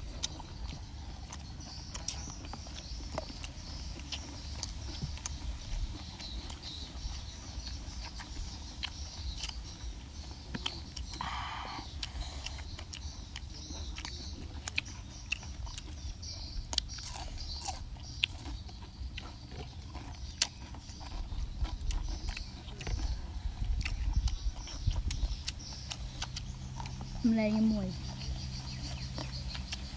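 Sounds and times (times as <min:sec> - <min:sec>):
chewing crunchy vegetables: 0:00.0 - 0:29.9.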